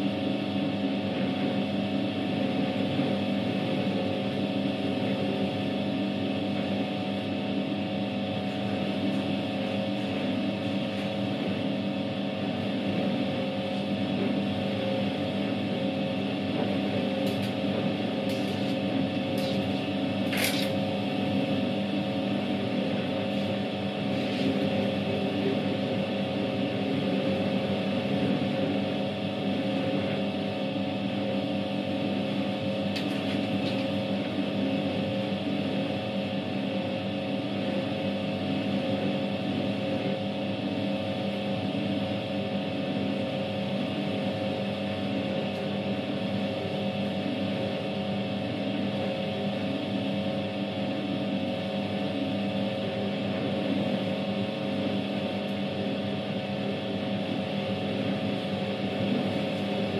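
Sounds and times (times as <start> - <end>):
washing machine motor humming: 0.0 - 59.9.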